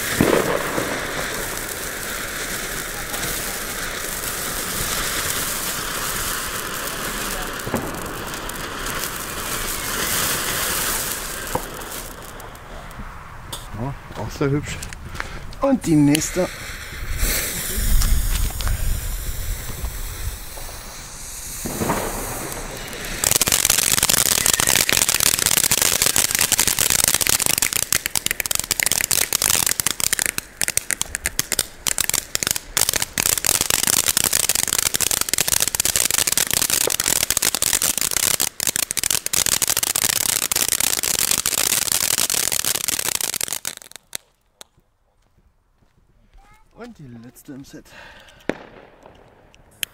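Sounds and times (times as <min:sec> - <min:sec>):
firework fountain crackling hiss: 0:00.0 - 0:13.0, 0:15.6 - 0:44.4, 0:47.4 - 0:49.9.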